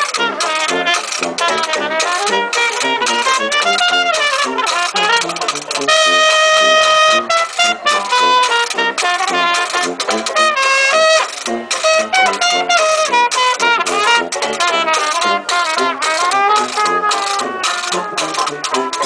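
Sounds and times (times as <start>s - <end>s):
sousaphone bass notes: 0.0s - 19.0s
trumpet melody: 0.0s - 19.0s
horn holding long note: 0.1s - 18.9s.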